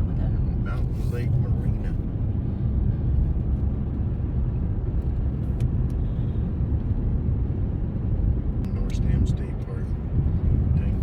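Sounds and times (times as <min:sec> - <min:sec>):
road and engine rumble in cabin: 0:00.0 - 0:11.0.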